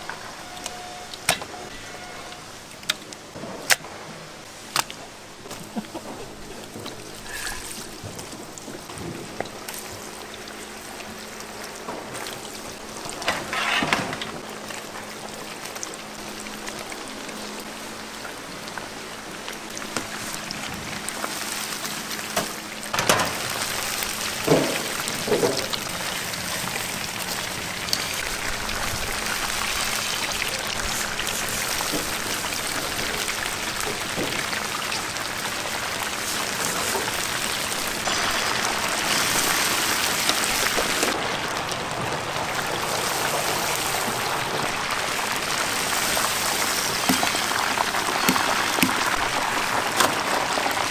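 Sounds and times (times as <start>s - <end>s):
chicken deep-frying in hot oil: 0.0s - 50.9s.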